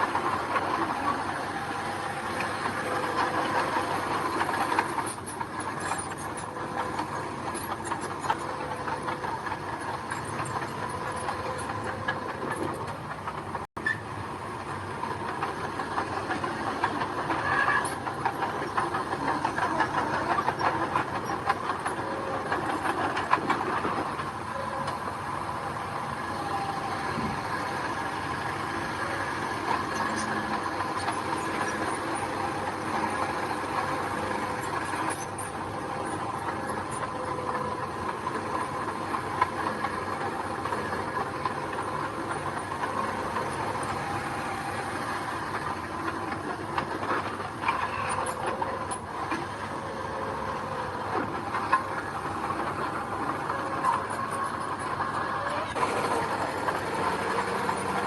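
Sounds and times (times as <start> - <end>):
clattering steel tracks: 0.0 - 58.0
diesel engine running: 0.0 - 58.0.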